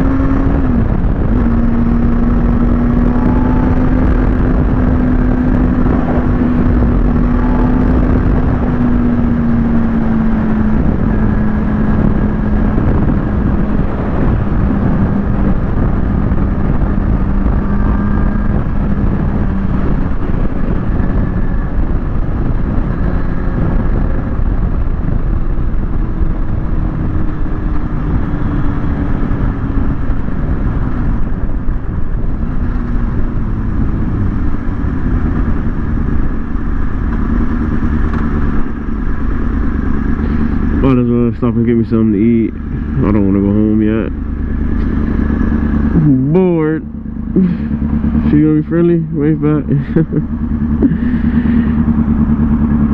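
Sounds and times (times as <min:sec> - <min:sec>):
motorcycle engine cruising: 0:00.0 - 0:52.9
wind rush: 0:00.0 - 0:52.9.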